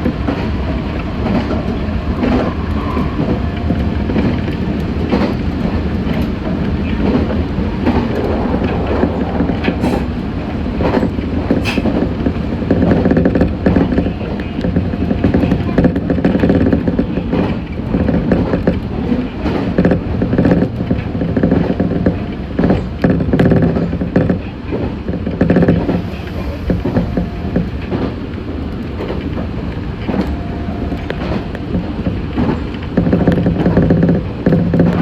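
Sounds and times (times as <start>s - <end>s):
train hum: 0.0s - 35.0s
train wheels rumbling on rails: 0.0s - 35.0s.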